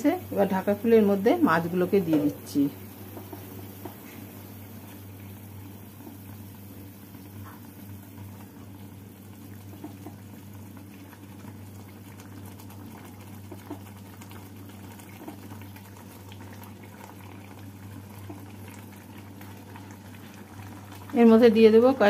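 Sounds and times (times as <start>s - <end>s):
gravy bubbling in pan: 0.0s - 22.0s.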